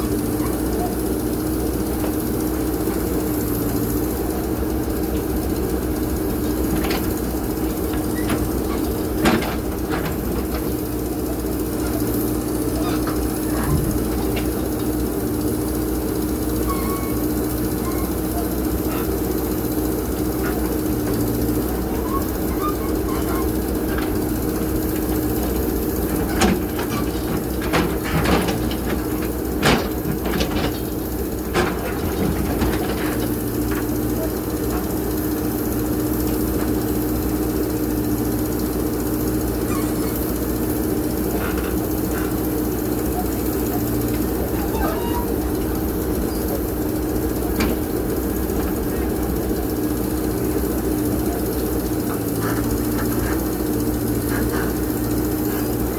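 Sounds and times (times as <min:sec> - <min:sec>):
backhoe diesel engine running: 0:00.0 - 0:55.9
knocks and clanks of loading soil: 0:00.0 - 0:55.9.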